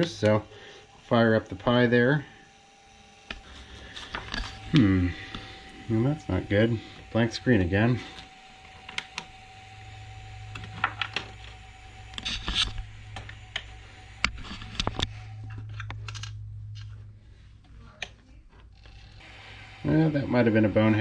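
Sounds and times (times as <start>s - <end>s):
printer fans humming: 0.0s - 21.0s.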